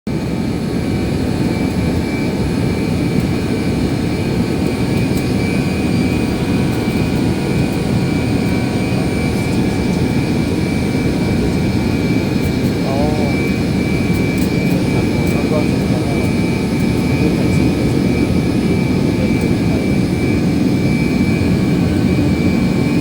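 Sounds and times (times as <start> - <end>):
jet engine and airflow rumble: 0.1 - 23.0.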